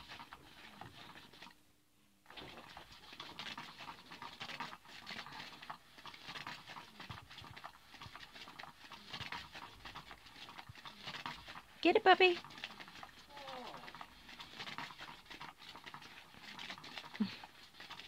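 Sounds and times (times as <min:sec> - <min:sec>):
cat toy wand rustling under fabric: 0:02.2 - 0:18.0.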